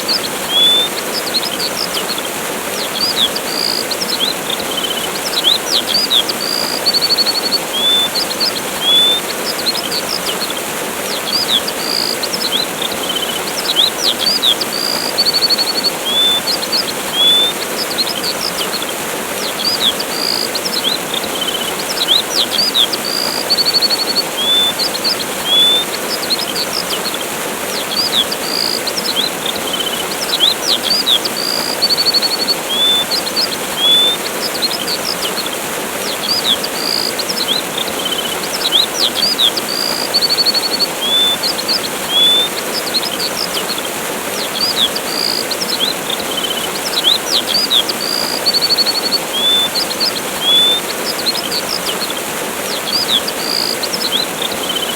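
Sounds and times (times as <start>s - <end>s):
birds chirping: 0.0s - 54.9s
waterfall rushing: 0.0s - 54.9s.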